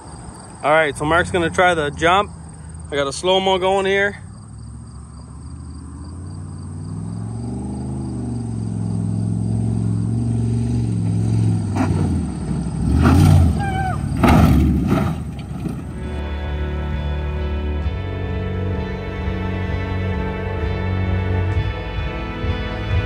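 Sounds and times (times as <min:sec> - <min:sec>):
truck engine revving: 0:00.8 - 0:23.0.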